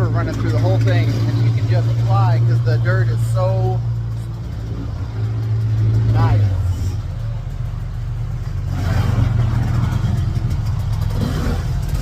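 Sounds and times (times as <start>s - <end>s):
road and wind rush: 0.0s - 12.0s
vehicle engine drone: 0.0s - 12.0s.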